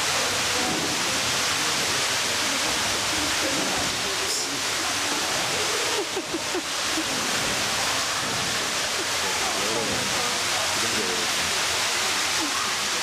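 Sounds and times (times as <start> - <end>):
faint murmuring voices: 0.0 - 13.0.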